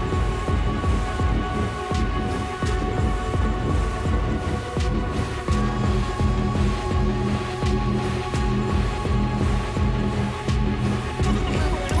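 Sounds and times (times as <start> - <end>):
deep repeating low beat: 0.0 - 12.0
held steady synth tones: 0.0 - 12.0.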